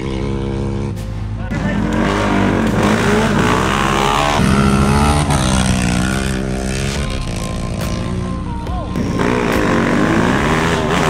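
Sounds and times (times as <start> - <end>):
off-road engines revving: 0.0 - 11.0.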